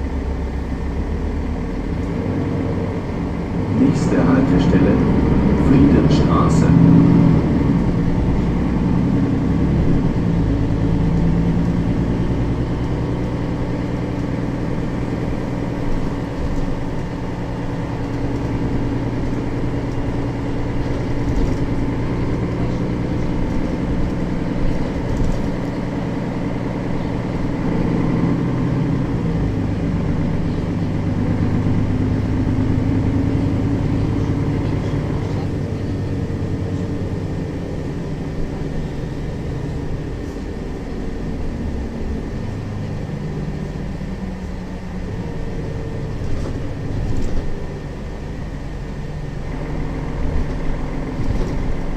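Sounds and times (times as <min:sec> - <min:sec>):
city bus engine running: 0:00.0 - 0:51.9.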